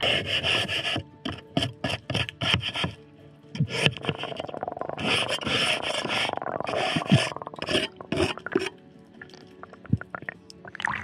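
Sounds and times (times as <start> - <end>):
scraper rasping underwater: 0.0 - 3.0, 3.6 - 10.3.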